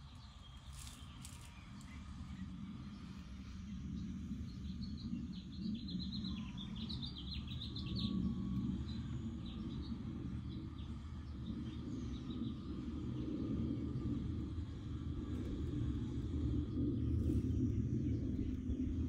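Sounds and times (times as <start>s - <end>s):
low rumble of outdoor noise: 0.0s - 19.0s.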